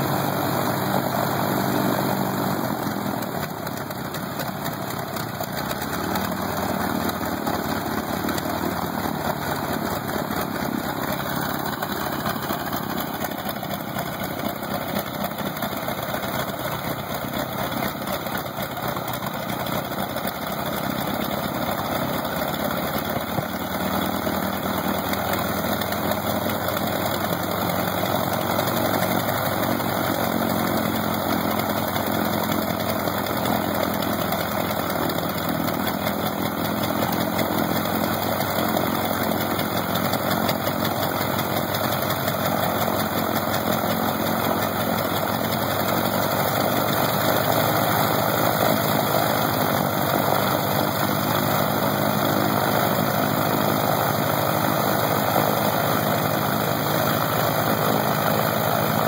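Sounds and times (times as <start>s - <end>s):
radial aircraft engine running: 0.0s - 59.0s.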